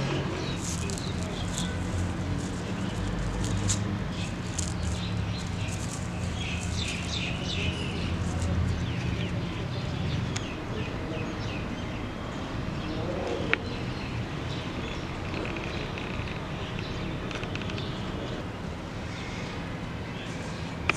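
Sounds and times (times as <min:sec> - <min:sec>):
small birds chirping: 0:00.0 - 0:18.4.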